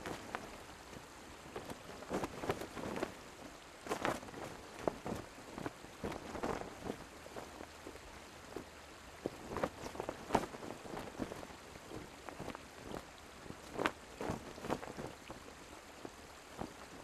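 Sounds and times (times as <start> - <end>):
faint steady hiss: 0.0 - 17.0
rain pattering: 0.0 - 17.0.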